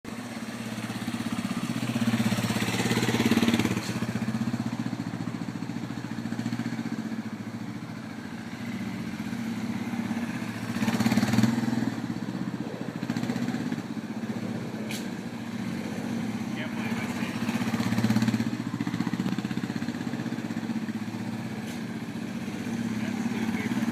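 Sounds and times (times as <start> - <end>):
motorcycle engine running slowly: 0.1 - 23.9.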